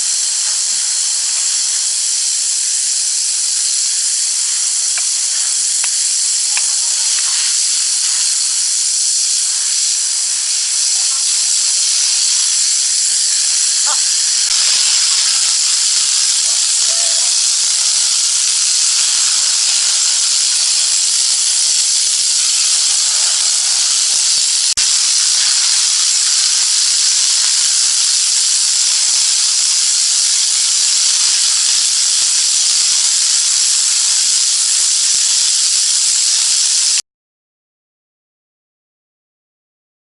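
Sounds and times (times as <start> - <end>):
pressure washer jet spraying: 0.0 - 37.0.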